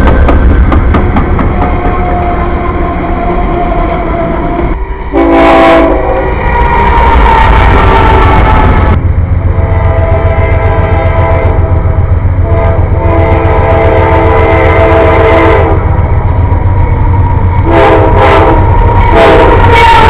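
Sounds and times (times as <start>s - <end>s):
locomotive air horn blasts: 1.0s - 20.0s.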